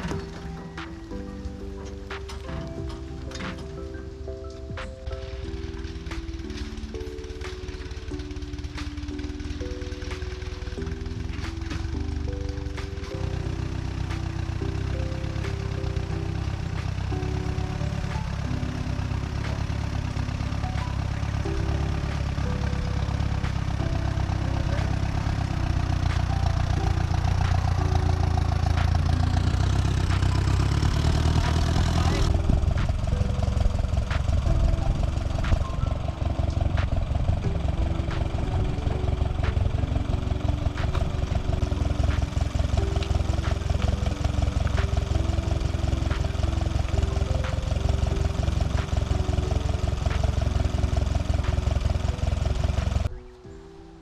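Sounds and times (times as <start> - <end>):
sawmill engine running: 0.0 - 53.2.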